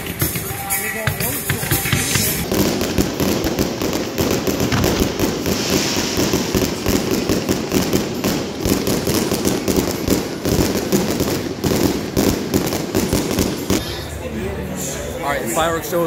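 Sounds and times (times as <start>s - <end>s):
fireworks popping and banging: 0.0s - 13.9s.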